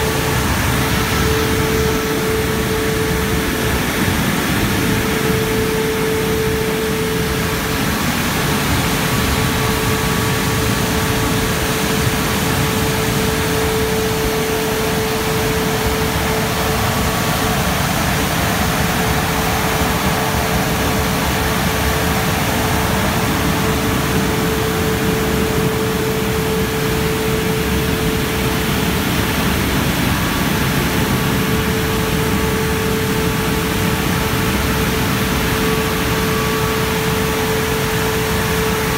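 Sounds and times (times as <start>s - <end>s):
car wash gantry running: 0.0s - 38.9s.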